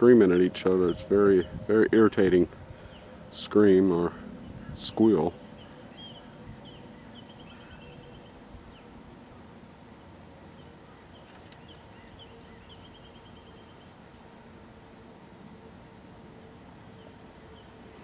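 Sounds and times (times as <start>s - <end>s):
distant birds chirping: 0.0s - 18.0s
faint steady hum: 0.0s - 18.0s.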